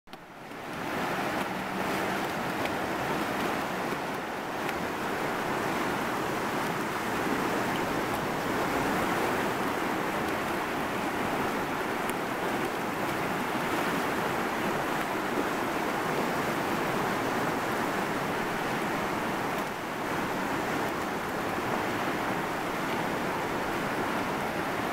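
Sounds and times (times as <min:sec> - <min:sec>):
river rapids rushing: 0:00.1 - 0:24.9.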